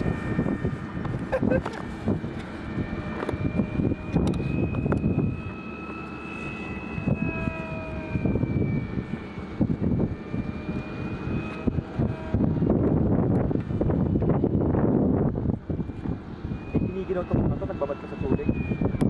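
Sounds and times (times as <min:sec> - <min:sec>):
model plane motor whine: 0:00.0 - 0:19.0
wind buffeting microphone: 0:00.0 - 0:19.0.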